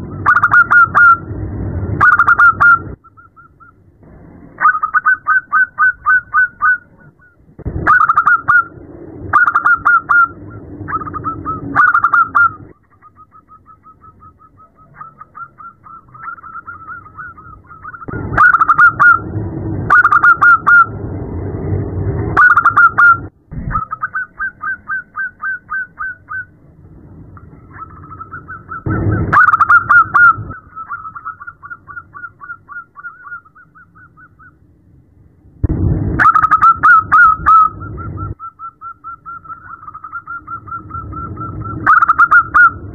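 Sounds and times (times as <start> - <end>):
doves calling in staccato notes: 0.0 - 1.3, 2.0 - 3.8, 4.6 - 19.2, 19.9 - 20.9, 22.4 - 26.6, 27.4 - 34.6, 36.2 - 42.9
low noisy rumble: 0.0 - 42.9.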